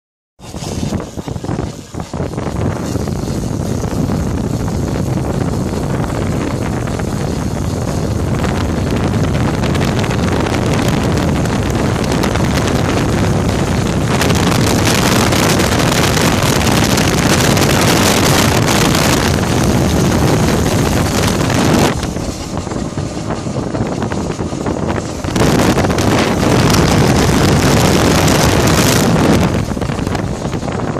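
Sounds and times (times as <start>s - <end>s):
wind buffeting microphone: 0.4s - 30.9s
motorcycle engine running: 1.4s - 30.9s.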